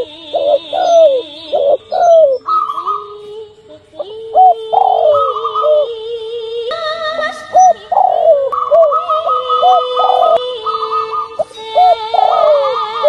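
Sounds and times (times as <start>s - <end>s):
dove cooing: 0.0s - 3.4s, 4.0s - 13.0s.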